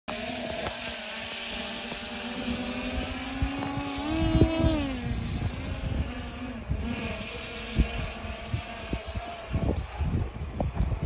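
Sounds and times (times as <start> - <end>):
drone propellers humming: 0.1 - 11.0
wind rumbling on microphone: 0.1 - 11.0.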